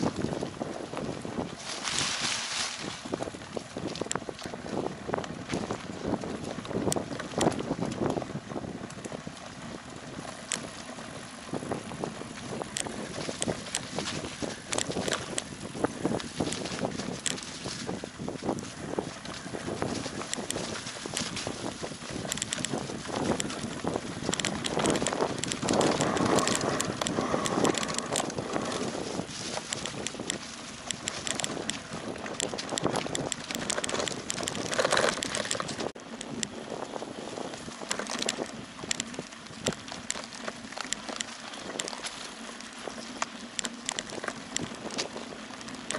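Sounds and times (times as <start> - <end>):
bike clicks and rattles: 0.0 - 45.9
bike tyres rolling on dirt: 0.0 - 45.9
wind on microphone: 0.0 - 45.9.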